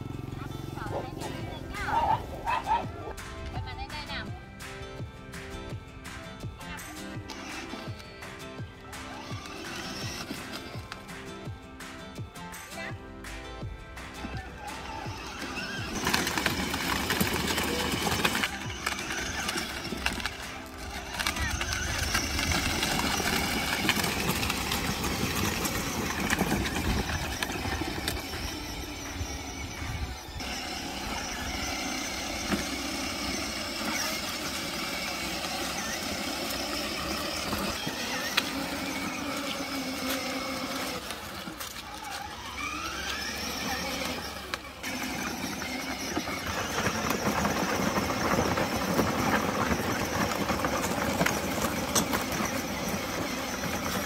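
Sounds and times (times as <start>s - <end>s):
toy car electric motor whining: 6.8s - 11.2s, 14.2s - 54.0s.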